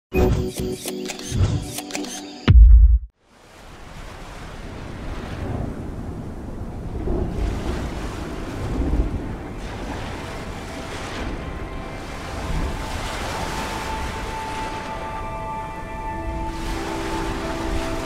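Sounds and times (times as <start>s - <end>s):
ocean surf: 3.2s - 18.0s
wind: 3.2s - 18.0s.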